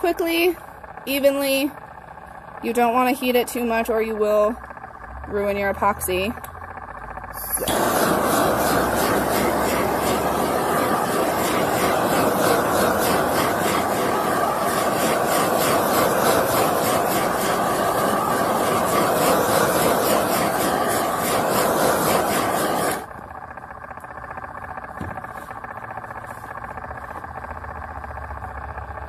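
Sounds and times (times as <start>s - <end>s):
propane torch hissing: 0.0s - 29.0s.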